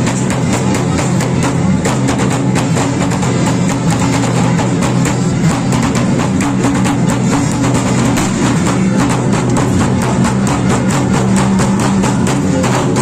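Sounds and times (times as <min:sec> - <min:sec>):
drums and percussion: 0:00.0 - 0:13.0.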